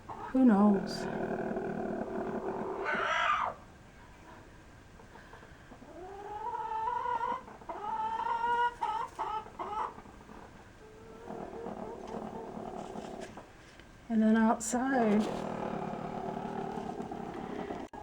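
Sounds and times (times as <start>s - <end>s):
chicken low murmur: 0.0s - 13.5s, 15.2s - 18.0s
chicken nesting calls: 0.0s - 13.6s, 15.2s - 18.0s.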